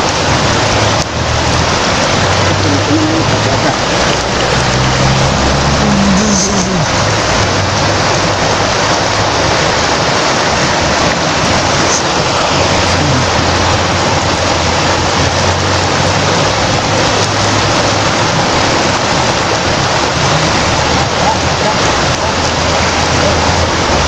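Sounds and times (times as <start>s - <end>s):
fast-flowing river rushing: 0.0s - 24.0s.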